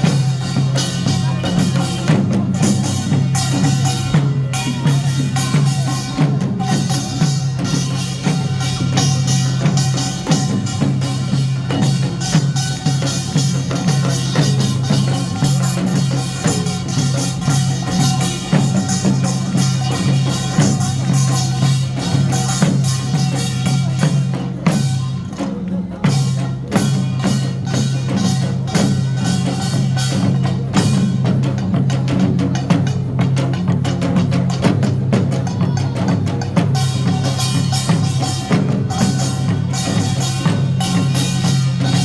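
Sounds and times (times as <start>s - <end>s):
percussion ensemble playing: 0.0s - 42.0s.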